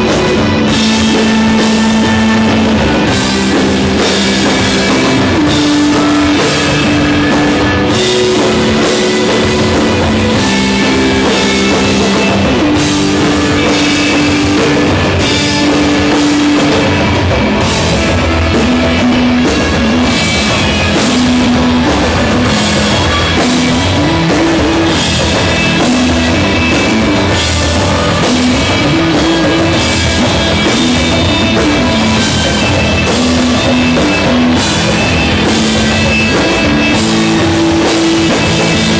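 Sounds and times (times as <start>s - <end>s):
instrumental rock band: 0.0s - 38.9s.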